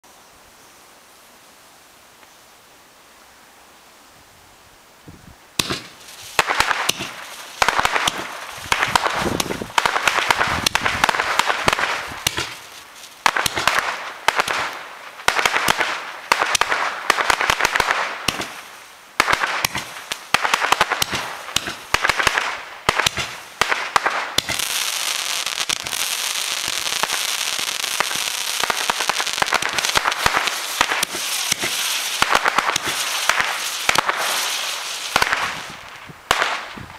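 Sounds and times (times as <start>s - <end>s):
firework shots bursting and crackling: 5.6s - 36.9s.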